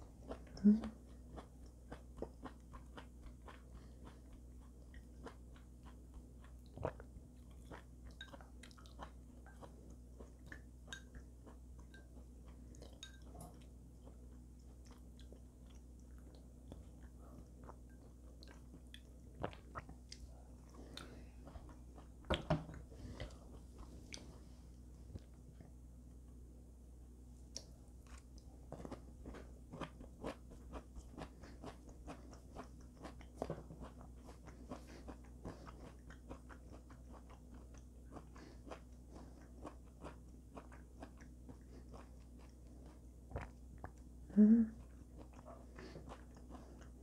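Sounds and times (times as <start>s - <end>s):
chewing with wet mouth clicks: 0.1s - 24.3s, 27.5s - 44.1s, 44.8s - 47.0s.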